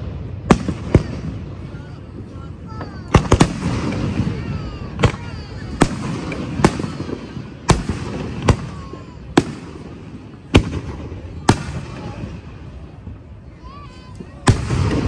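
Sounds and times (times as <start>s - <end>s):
crowd voices: 0.0s - 15.0s
fireworks bangs: 0.0s - 15.0s.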